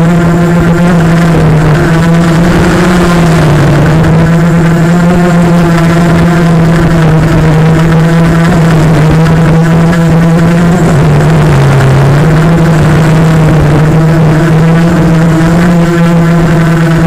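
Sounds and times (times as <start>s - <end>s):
quadcopter motors humming: 0.0s - 17.0s.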